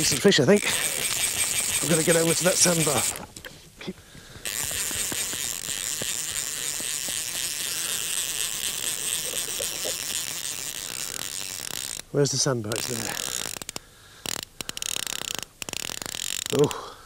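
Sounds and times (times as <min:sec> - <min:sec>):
fishing reel ratchet clicking: 0:00.0 - 0:03.3, 0:04.4 - 0:16.8.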